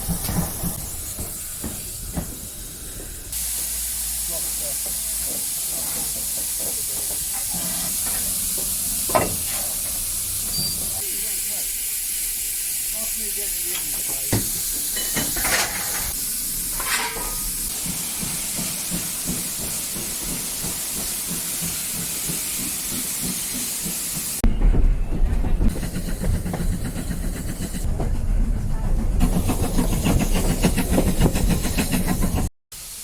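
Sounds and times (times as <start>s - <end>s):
train rumbling under way: 0.0s - 12.8s, 13.5s - 33.0s
steam venting hiss: 0.0s - 24.4s, 29.2s - 33.0s.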